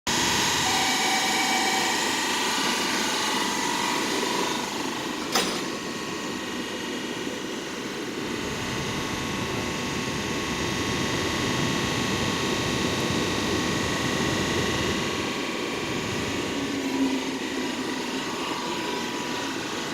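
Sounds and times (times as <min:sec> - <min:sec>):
electric train whining: 0:00.1 - 0:19.9.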